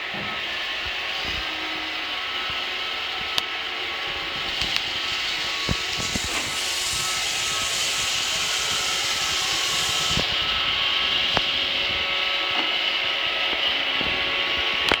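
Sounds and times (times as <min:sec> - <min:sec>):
robot vacuum whirring: 0:01.0 - 0:14.6.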